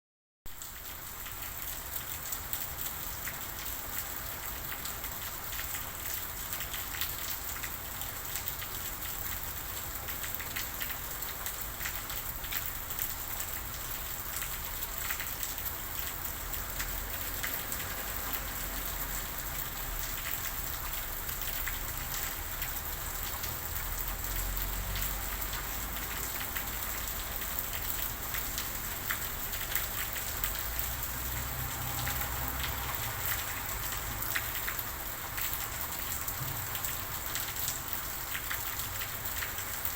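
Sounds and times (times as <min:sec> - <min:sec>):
steady rain falling: 0:00.5 - 0:39.9.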